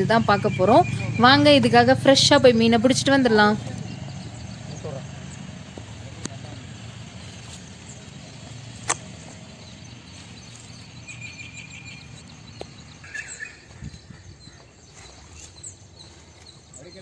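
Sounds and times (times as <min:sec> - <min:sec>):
short chirping calls: 0:00.0 - 0:17.0.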